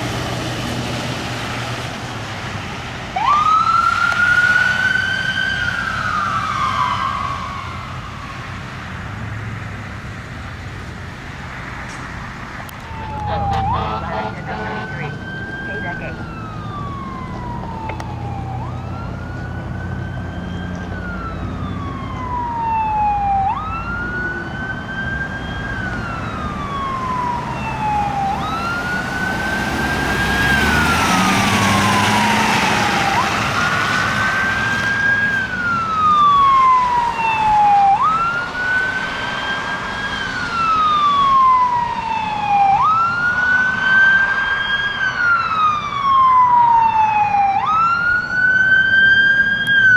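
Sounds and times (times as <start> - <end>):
fire engine siren wailing: 0.0 - 49.9
truck engine and road noise: 0.0 - 49.9.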